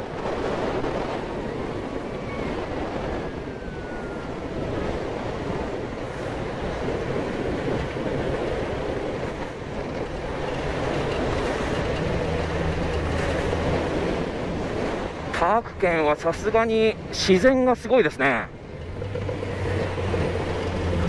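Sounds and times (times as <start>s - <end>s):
motorcycle engine and road noise: 0.0s - 15.5s, 18.5s - 21.0s
wind rushing over microphone: 0.0s - 21.0s.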